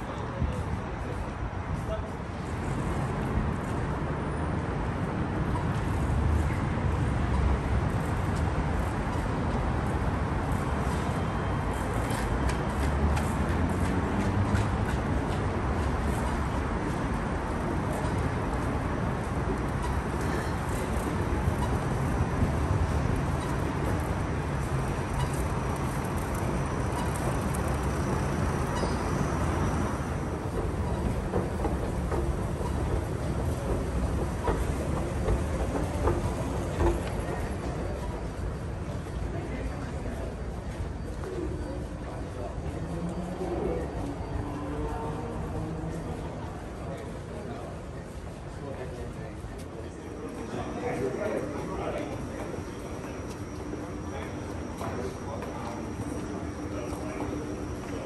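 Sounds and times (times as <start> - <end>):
city background rumble: 0.0 - 58.0.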